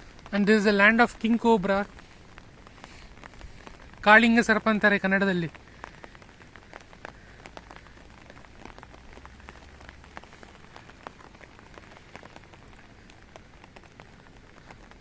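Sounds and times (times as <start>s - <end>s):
raindrops ticking close by: 0.0s - 15.0s
steady rain falling: 0.0s - 15.0s.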